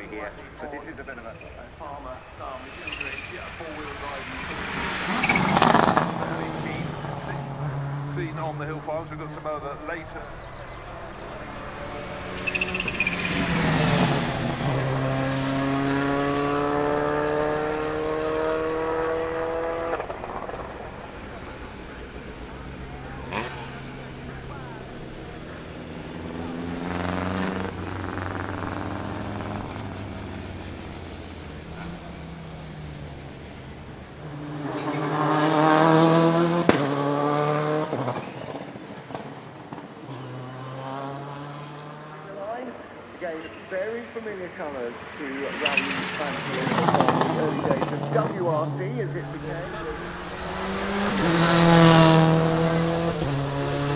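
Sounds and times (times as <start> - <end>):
rally car engine driving past: 0.0 - 53.9.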